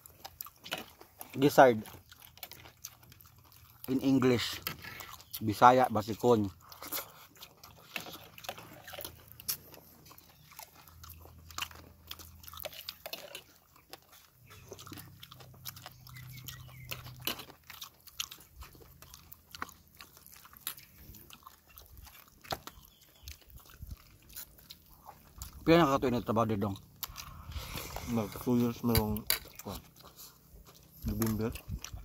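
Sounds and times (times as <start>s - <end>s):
chewing and lip smacking: 0.0s - 32.0s.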